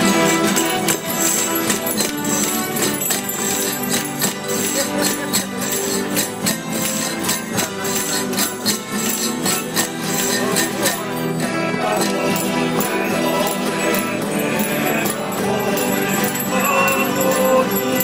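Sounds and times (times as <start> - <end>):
folk band with guitars and accordion: 0.0 - 18.0
jingling percussion: 0.0 - 18.0.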